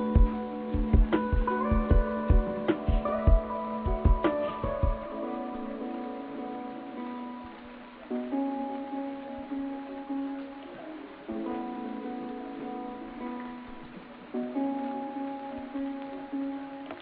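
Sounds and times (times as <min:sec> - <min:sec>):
soft plucked guitar: 0:00.0 - 0:17.0.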